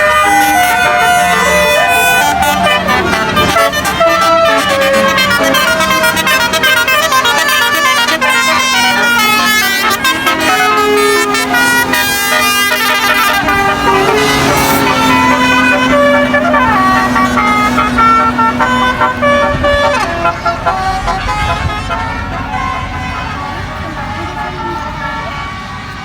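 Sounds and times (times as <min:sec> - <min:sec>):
multi-tone bus horns: 0:00.0 - 0:26.0
vehicle engine noise: 0:00.0 - 0:26.0.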